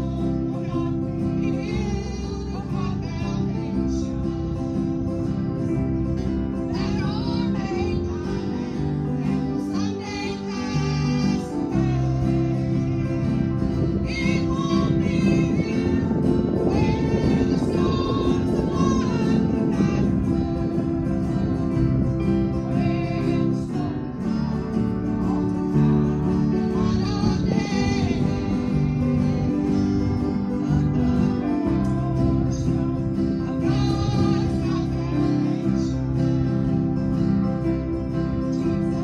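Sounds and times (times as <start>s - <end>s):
band playing: 0.0s - 39.0s
singers singing gospel: 0.0s - 39.0s.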